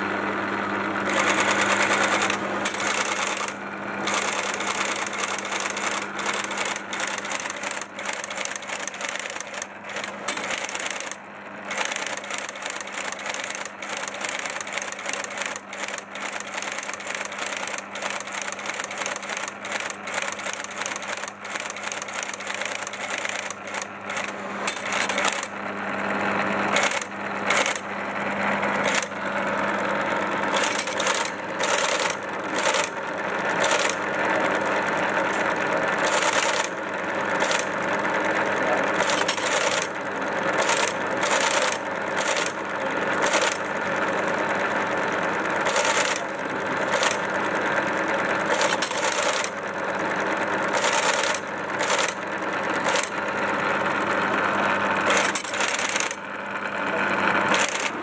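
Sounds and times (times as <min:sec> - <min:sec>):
low machine hum: 0:00.0 - 0:48.4
typebars clattering: 0:01.0 - 0:25.6, 0:26.7 - 0:56.2, 0:57.5 - 0:58.0.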